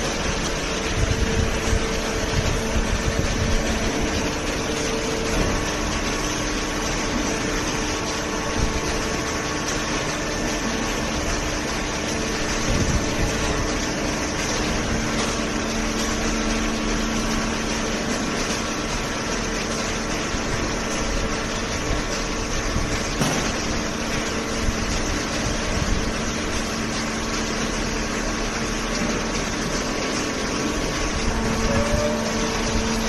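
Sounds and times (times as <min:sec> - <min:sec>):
hydraulic baler humming: 0:00.0 - 0:33.0.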